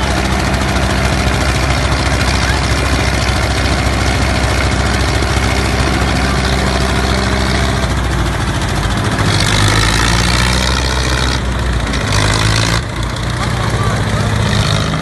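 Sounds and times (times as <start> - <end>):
tractor engines labouring: 0.0 - 15.0.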